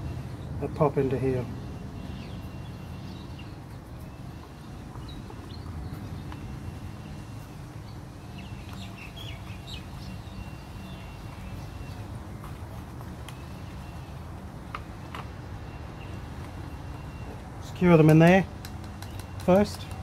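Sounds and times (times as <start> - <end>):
birds whistling and chirping: 0.0 - 12.2, 13.1 - 14.4, 15.4 - 20.0.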